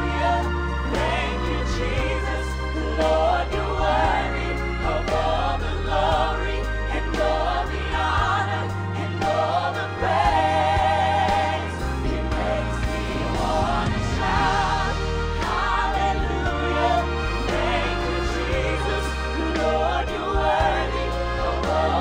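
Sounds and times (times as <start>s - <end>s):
band playing: 0.0s - 22.0s
bass line: 0.0s - 22.0s
choir singing: 0.0s - 22.0s
solo voices singing: 0.0s - 22.0s.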